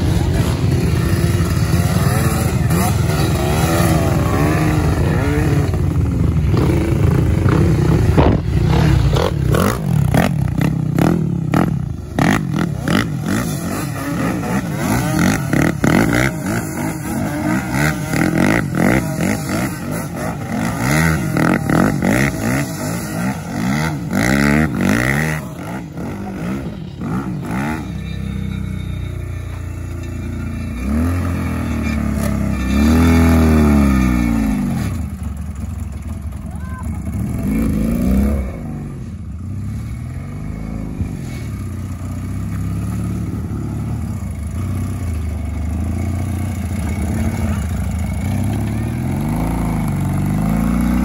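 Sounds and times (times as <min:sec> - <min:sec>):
engine revving: 0:00.0 - 0:35.6, 0:36.9 - 0:41.6, 0:42.2 - 0:51.0.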